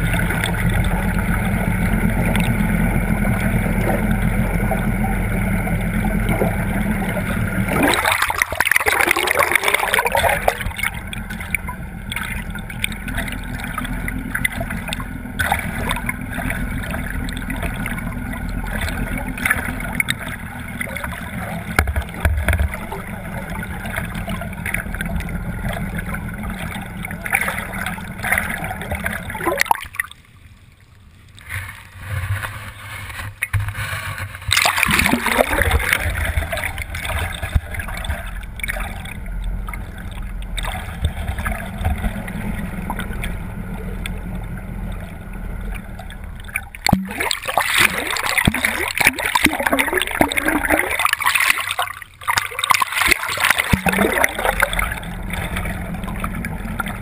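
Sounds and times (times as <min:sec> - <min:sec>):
boat motor running: 0:00.0 - 0:57.0
rushing gurgling water: 0:00.0 - 0:57.0.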